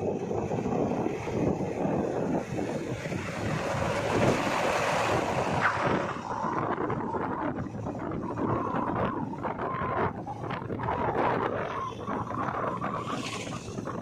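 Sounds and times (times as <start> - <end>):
diesel engine driving: 0.0 - 14.0
road noise: 0.0 - 14.0
wind buffeting microphone: 0.0 - 14.0.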